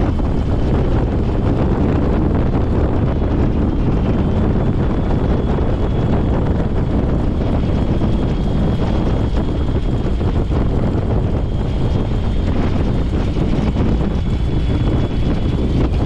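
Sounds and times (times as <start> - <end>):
biplane engine running: 0.0 - 16.0
propeller wash on microphone: 0.0 - 16.0.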